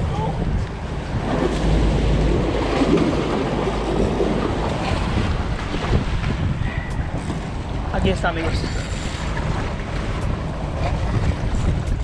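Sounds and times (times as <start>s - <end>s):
wind noise on microphone: 0.0s - 12.0s
surf splashing against rocks: 0.8s - 12.0s.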